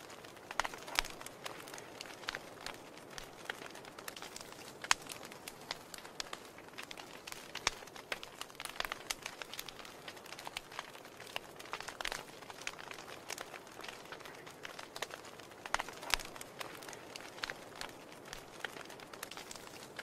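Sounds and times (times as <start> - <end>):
soft fire hiss: 0.0 - 20.0
wood fire crackling and popping: 0.0 - 20.0.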